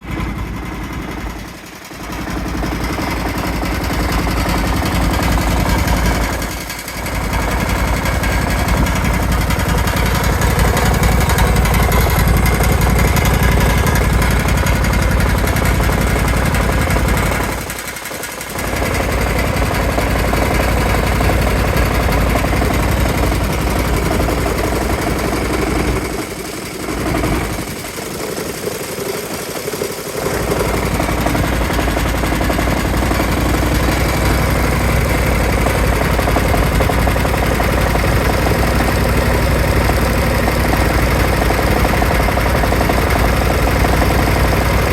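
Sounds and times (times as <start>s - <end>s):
mower engine knocking: 0.0s - 44.9s.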